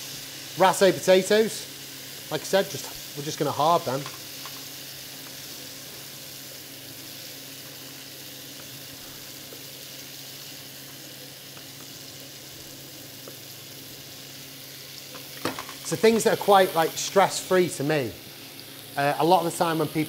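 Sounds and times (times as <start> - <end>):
meat sizzling in a hot pan: 0.0 - 20.0.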